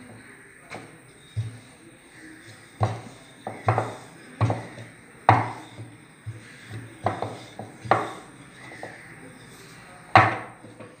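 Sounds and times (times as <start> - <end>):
wooden knocks: 0.0 - 1.8, 2.5 - 9.2, 10.1 - 11.0
rolling pin rolling dough: 0.0 - 11.0.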